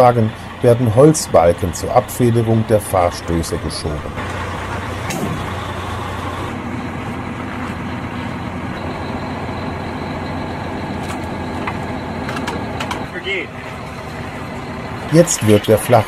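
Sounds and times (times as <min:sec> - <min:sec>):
heavy diesel engines running: 0:00.0 - 0:16.0.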